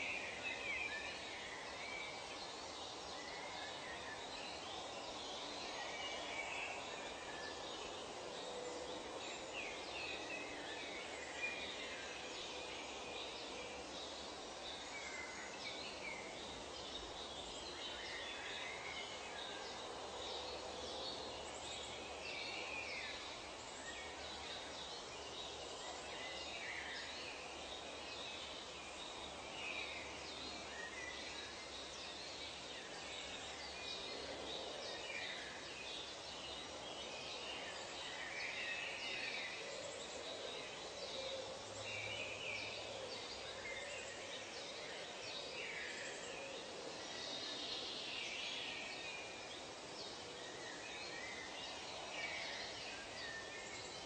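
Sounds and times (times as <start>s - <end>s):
background hiss: 0.0s - 54.0s.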